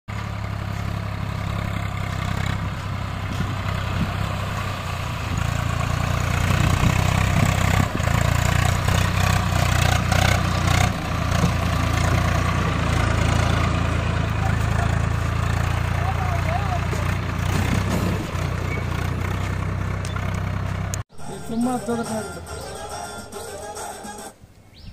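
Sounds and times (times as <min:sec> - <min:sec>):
tractor diesel engine running: 0:00.1 - 0:24.0.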